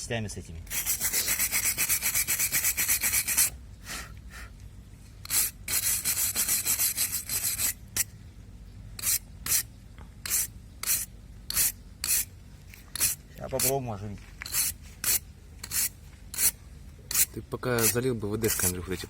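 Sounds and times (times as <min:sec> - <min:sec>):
brush scrubbing rusted metal: 0:00.7 - 0:03.6, 0:05.2 - 0:08.1, 0:09.0 - 0:19.0.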